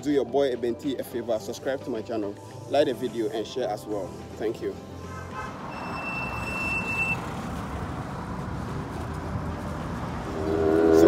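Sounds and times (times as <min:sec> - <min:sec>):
background music with low bass: 0:00.0 - 0:11.0
road traffic passing: 0:01.0 - 0:11.0.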